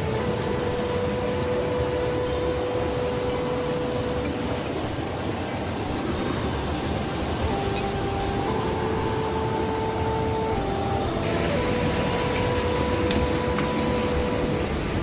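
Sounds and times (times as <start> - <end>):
slow music with held notes: 0.0 - 15.0
stream flowing over rocks: 0.0 - 15.0.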